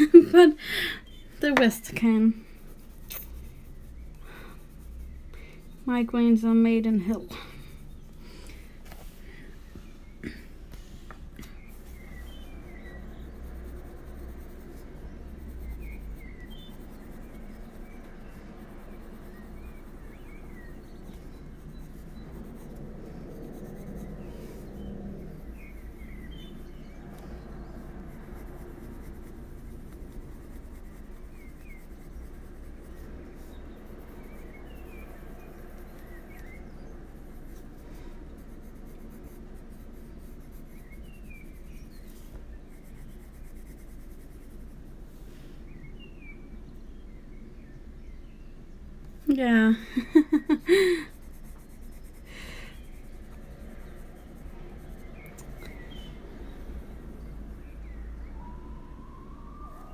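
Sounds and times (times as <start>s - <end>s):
colored pencil scratching paper: 0.0s - 9.3s, 10.3s - 45.2s, 49.2s - 57.3s.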